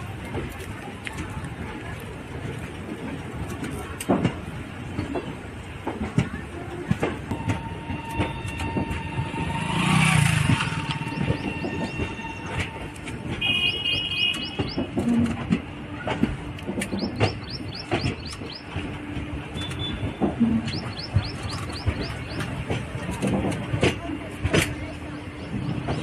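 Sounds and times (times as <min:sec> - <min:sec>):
train running noise: 0:00.0 - 0:26.0
wheels knocking on rail joints: 0:00.0 - 0:26.0.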